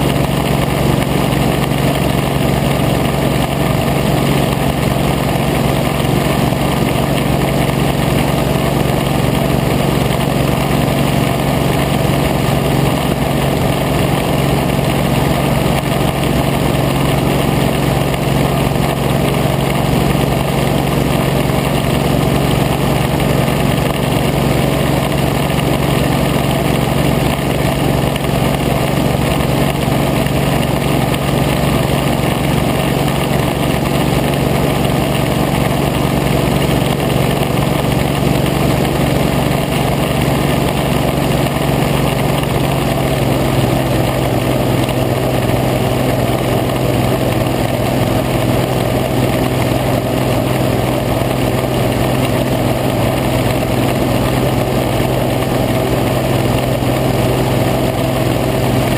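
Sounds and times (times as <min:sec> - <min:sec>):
boat engine droning: 0:00.0 - 0:58.9.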